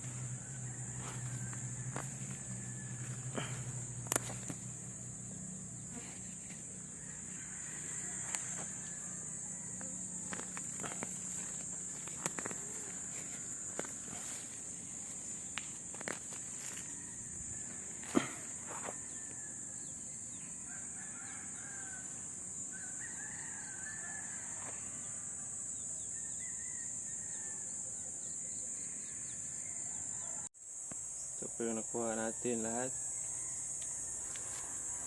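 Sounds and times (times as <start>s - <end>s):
crickets droning: 0.0s - 35.0s.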